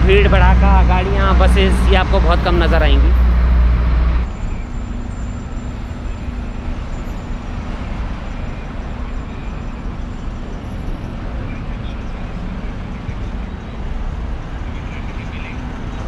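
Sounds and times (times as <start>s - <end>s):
heavy vehicle engine rumble: 0.0s - 16.0s
steady traffic noise: 0.0s - 16.0s.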